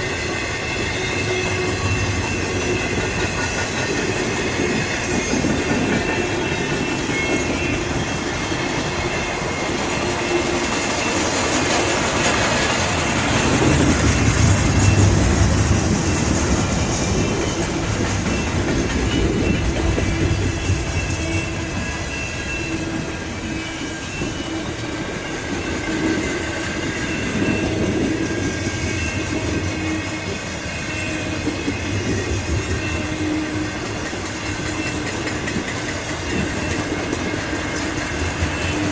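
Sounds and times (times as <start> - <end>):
freight train cars rumbling: 0.0 - 38.9.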